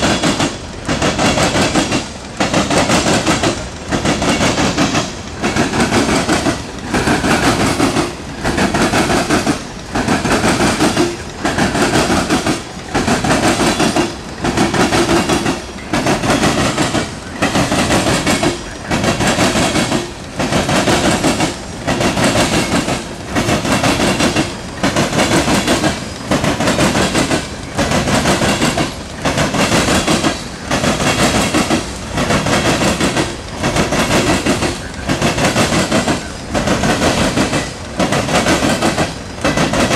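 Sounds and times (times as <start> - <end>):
train wheels clattering over rail crossing: 0.0 - 39.9.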